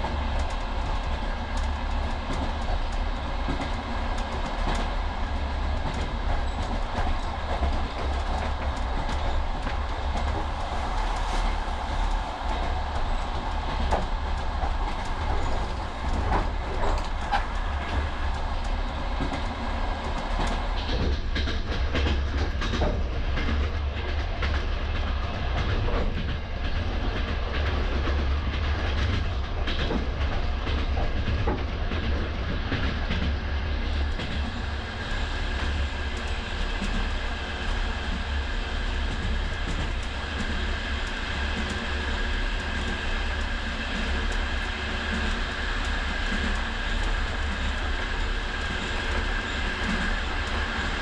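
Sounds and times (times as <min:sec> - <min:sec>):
train clicks and rattles: 0:00.0 - 0:51.0
train low rumble: 0:00.0 - 0:51.0.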